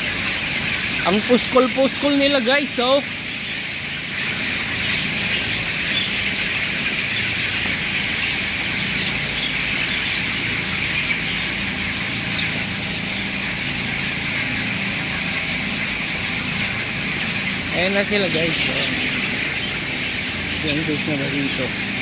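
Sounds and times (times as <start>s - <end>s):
chickens peeping and chattering: 0.0s - 22.0s
ventilation fans humming: 0.0s - 22.0s.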